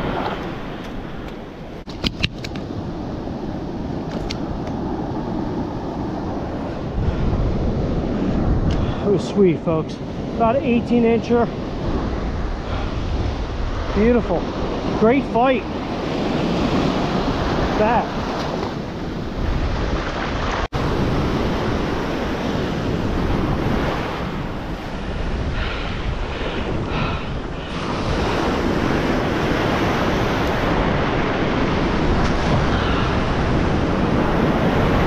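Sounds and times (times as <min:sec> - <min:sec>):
ocean surf breaking: 0:00.0 - 0:01.9, 0:02.5 - 0:35.0
wind buffeting microphone: 0:00.0 - 0:35.0.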